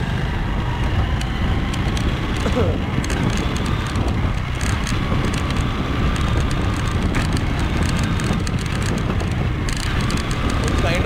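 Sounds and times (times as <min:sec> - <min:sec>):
motorcycle engine and tyres: 0:00.0 - 0:11.0.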